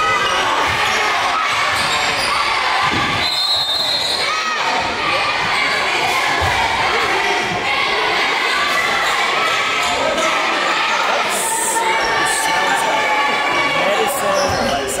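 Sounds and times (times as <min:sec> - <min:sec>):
crowd talking and calling out: 0:00.0 - 0:15.0.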